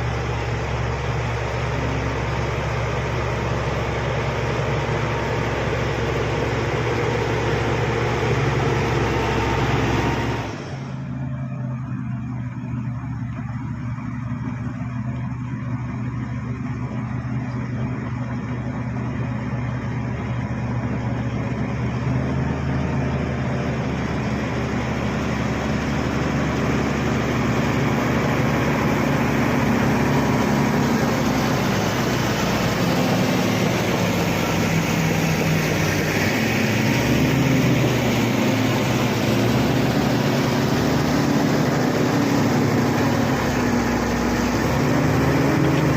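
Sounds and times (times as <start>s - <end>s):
bulldozer diesel engine under load: 0.0s - 45.9s.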